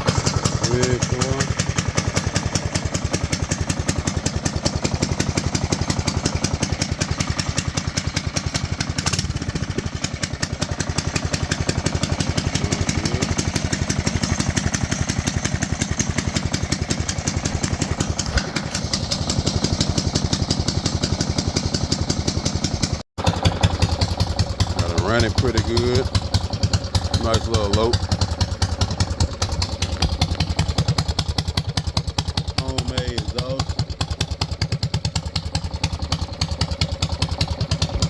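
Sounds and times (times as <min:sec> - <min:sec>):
single-cylinder engine running: 0:00.0 - 0:38.0.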